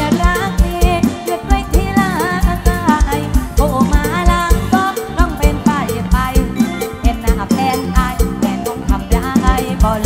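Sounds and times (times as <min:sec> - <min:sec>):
band playing: 0:00.0 - 0:10.0
woman singing ornamented melody: 0:00.0 - 0:10.0.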